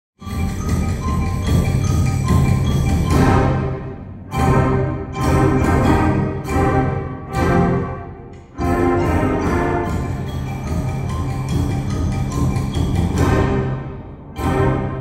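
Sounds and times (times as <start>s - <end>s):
concert band playing: 0.2s - 15.0s.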